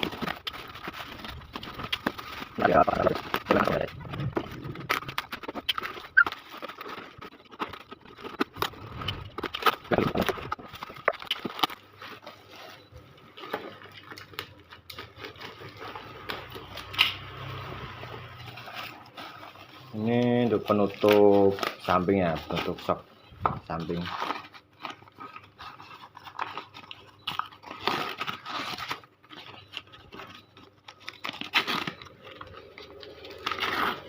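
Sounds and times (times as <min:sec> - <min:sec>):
plastic packaging crinkling: 0:00.0 - 0:34.0.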